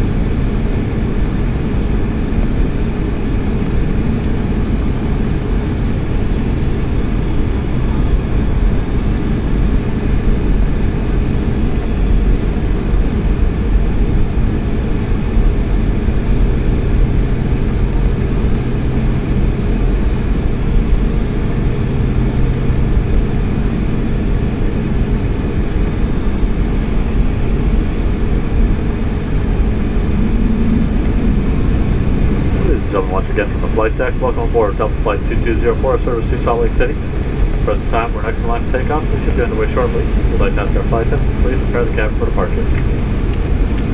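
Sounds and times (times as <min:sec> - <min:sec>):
jet engines heard from cabin: 0:00.0 - 0:43.9.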